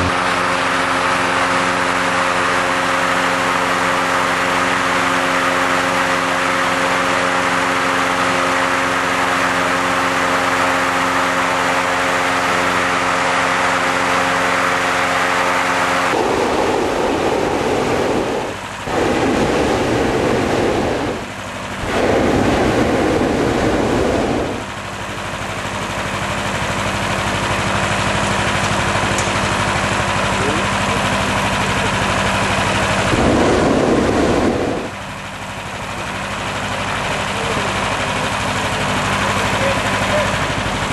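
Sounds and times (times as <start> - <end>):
propane burner firing: 0.0 - 40.9
small engine running: 0.0 - 40.9.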